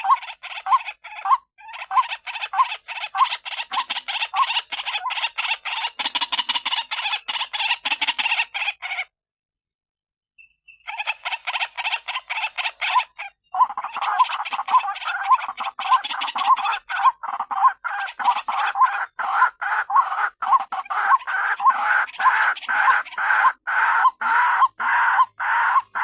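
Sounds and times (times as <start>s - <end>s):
bird harsh croaking call: 0.0s - 9.1s, 10.7s - 26.0s.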